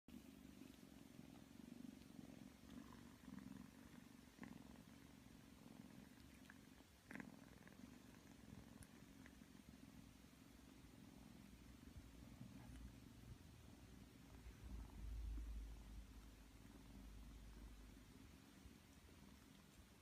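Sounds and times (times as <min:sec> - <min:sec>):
kitten purring: 0:00.1 - 0:20.0.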